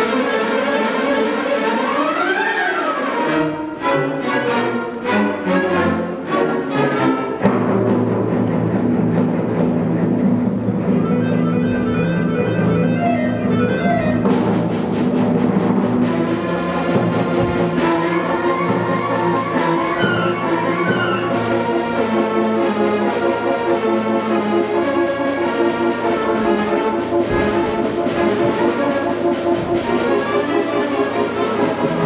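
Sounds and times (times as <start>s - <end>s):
orchestral ballet music: 0.0s - 32.0s.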